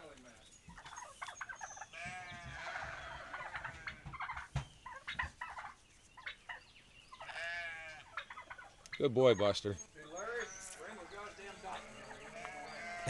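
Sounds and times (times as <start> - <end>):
farm animal calling: 0.0 - 13.0.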